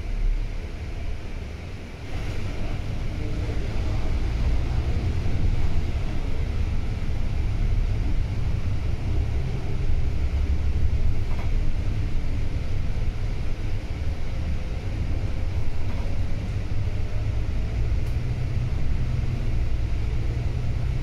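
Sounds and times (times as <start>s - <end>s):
bus diesel engine rumbling: 0.0s - 21.0s
road noise: 0.0s - 21.0s.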